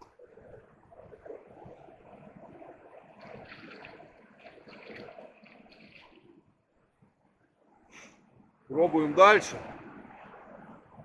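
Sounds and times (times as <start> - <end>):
uneven water splashing: 0.0 - 7.2, 8.9 - 11.0
river water flowing: 0.0 - 11.0.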